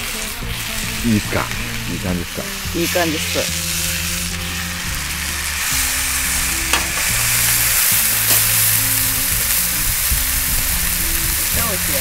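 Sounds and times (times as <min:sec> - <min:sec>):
steak sizzling in a frying pan: 0:00.0 - 0:12.0.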